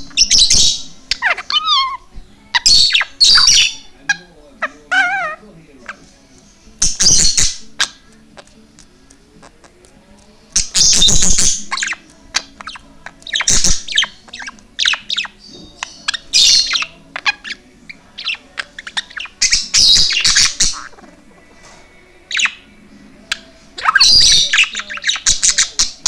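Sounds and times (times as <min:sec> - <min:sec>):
budgerigar chattering and chirping: 0:00.0 - 0:06.0, 0:06.8 - 0:08.5, 0:10.6 - 0:21.5, 0:22.3 - 0:22.7, 0:23.3 - 0:26.0.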